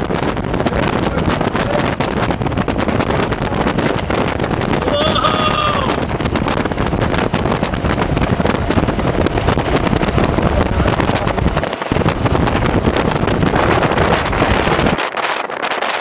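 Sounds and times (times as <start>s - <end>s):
low rumble: 0.0s - 15.5s
wind buffeting microphone: 0.0s - 16.0s.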